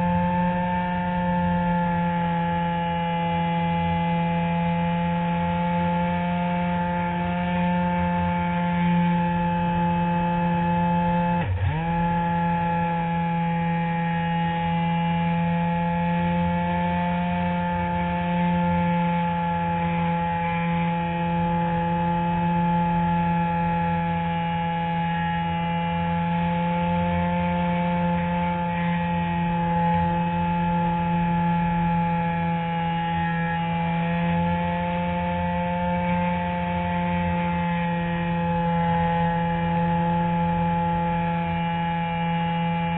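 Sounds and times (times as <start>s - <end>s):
electric motor and propeller drone: 0.0s - 42.9s.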